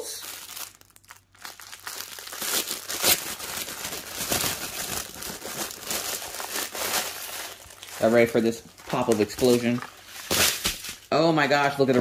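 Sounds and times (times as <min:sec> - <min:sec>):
plastic wrapping crackling: 0:00.0 - 0:11.2.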